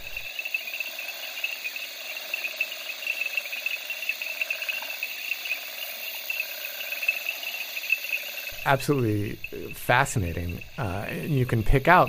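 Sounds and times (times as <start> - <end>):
chorus of insects and frogs: 0.0 - 12.0
shrill insect trill: 0.0 - 12.0.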